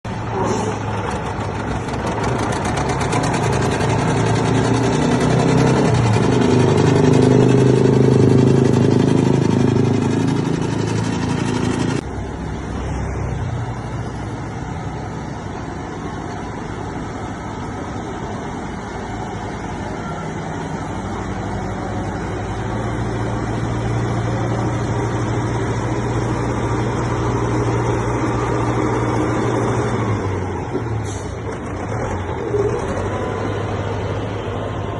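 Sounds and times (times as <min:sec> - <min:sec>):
heavy vehicle engines running: 0:00.0 - 0:34.9.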